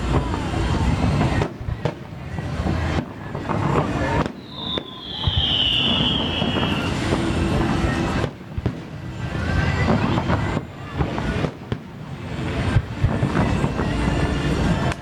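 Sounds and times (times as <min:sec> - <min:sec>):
crowd murmuring: 0:00.0 - 0:15.0
firework booms: 0:00.0 - 0:15.0
firework whistle: 0:00.0 - 0:15.0.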